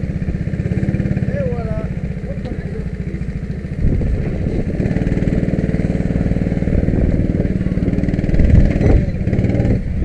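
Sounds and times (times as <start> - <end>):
go-kart engine running: 0.0 - 10.0.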